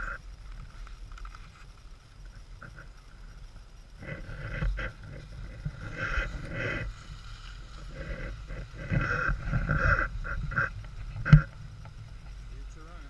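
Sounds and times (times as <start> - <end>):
wind rumbling on microphone: 0.0 - 13.0
muffled bursts of sound: 2.2 - 13.0.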